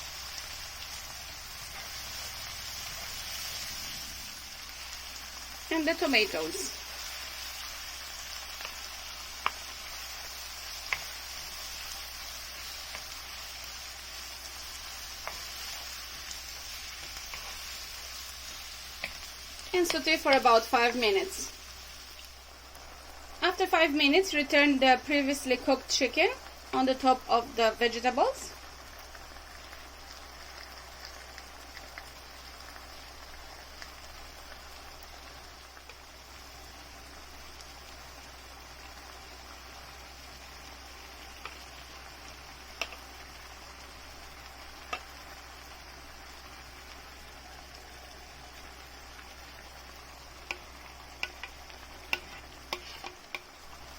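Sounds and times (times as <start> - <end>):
vegetables sizzling in oil: 0.0 - 53.9.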